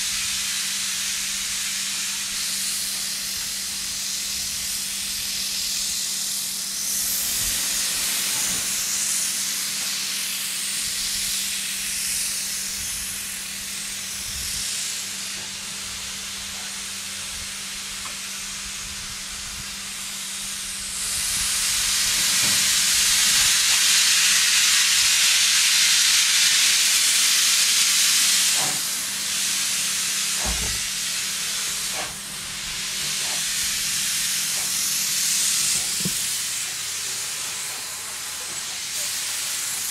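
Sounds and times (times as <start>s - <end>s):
steam hissing from locomotive: 0.0s - 39.9s.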